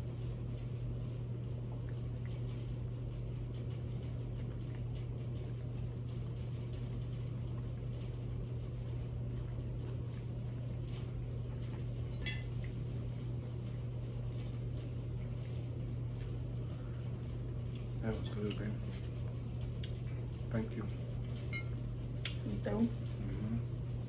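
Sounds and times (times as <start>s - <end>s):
quiet eating sounds: 0.0s - 24.0s
steady low hum: 0.0s - 24.0s.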